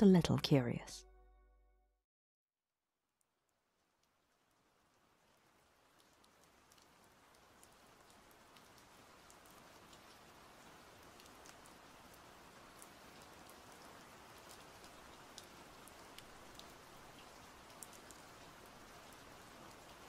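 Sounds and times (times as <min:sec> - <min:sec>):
faint steady rain: 0:03.2 - 0:20.0.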